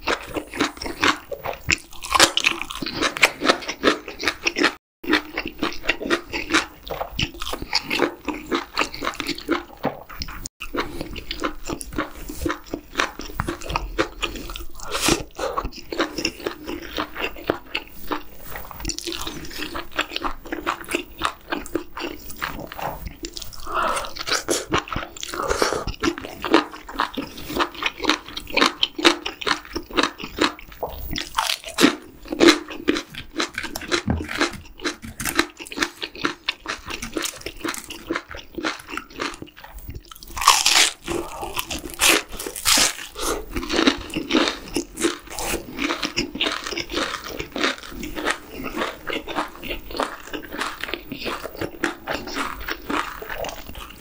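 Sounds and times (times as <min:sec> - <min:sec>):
crisp wet chewing and crunching: 0:00.0 - 0:54.0.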